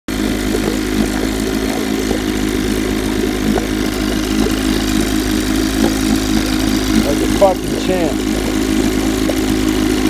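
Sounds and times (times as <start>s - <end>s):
outboard motor running: 0.1s - 10.0s
water churning: 0.1s - 10.0s.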